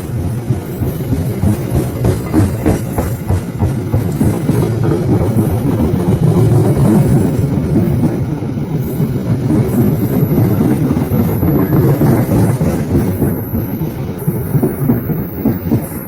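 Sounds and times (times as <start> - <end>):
locomotive and train rumbling: 0.0 - 16.0.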